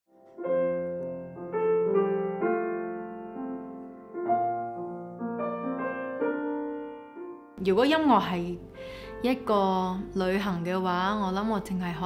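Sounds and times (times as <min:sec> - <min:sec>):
grand piano chords: 0:00.1 - 0:12.0.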